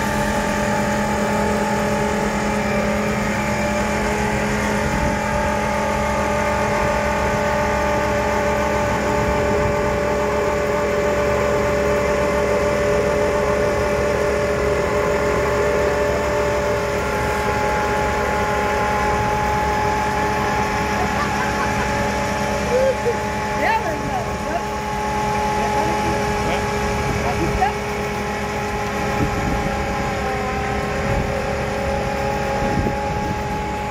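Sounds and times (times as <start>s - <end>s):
earth auger boring into soil: 0.0s - 33.9s
engine and hydraulics humming: 0.0s - 33.9s.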